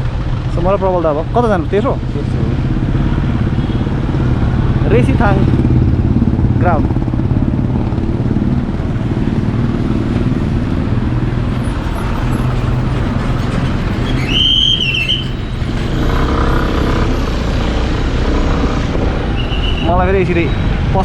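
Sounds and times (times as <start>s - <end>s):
scooter engine and road rumble: 0.0s - 21.0s.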